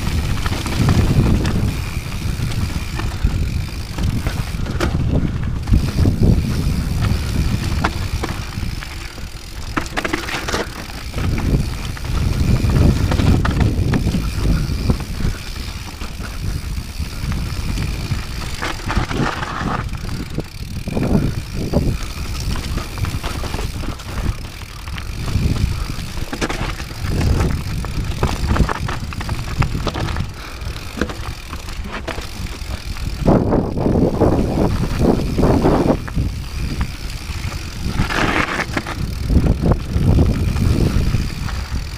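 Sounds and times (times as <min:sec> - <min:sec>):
bike knocks and rattles: 0:00.0 - 0:41.9
bike tyres rolling over stones: 0:00.0 - 0:41.9
wind rumble on microphone: 0:00.0 - 0:41.9.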